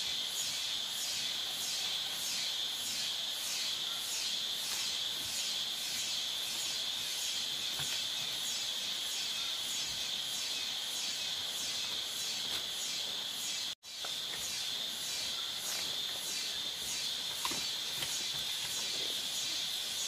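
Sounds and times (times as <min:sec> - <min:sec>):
night insects buzzing and trilling: 0:00.0 - 0:20.0.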